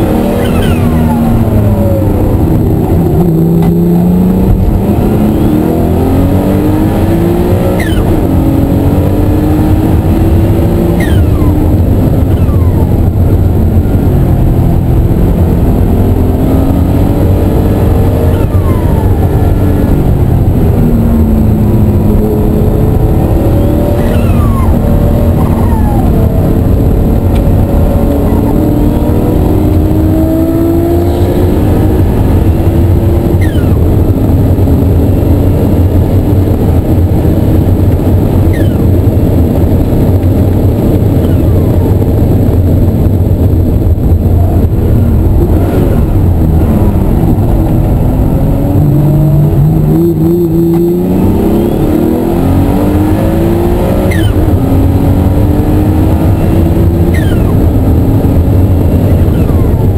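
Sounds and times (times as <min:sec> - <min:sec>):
sports car engine accelerating: 0:00.0 - 0:59.9.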